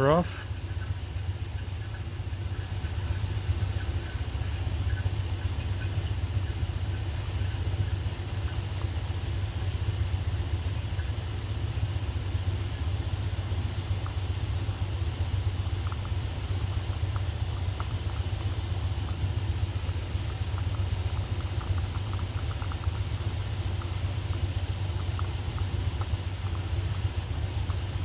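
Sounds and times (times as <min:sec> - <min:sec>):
coolers roaring: 0:00.0 - 0:28.0.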